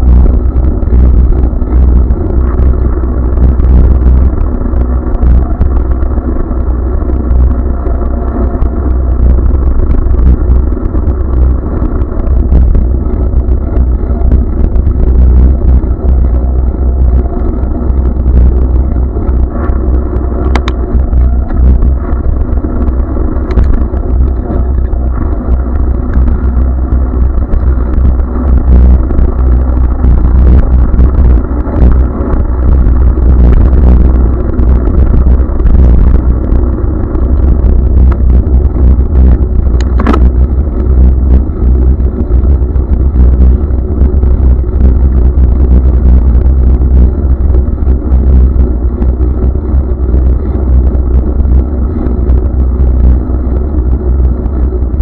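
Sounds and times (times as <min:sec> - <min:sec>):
motor vehicles in traffic: 0:00.0 - 0:55.0
wind and road noise rumble: 0:00.0 - 0:55.0.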